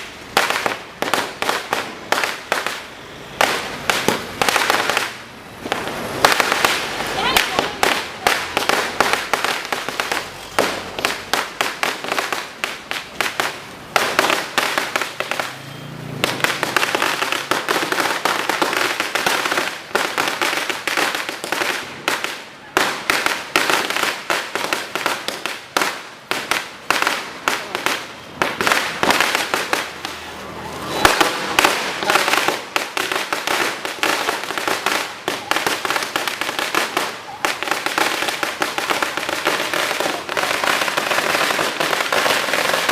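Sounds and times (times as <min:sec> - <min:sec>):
string of firecrackers banging: 0:00.0 - 0:42.9.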